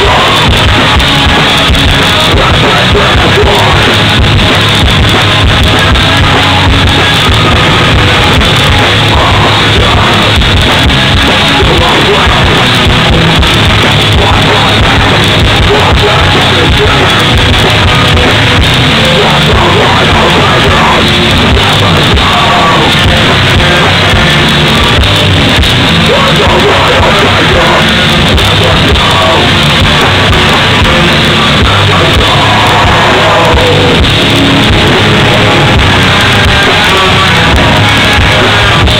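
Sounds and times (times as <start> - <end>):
distorted electric guitars: 0.0 - 38.9
drums: 0.0 - 38.9
yelled vocals: 0.0 - 38.9.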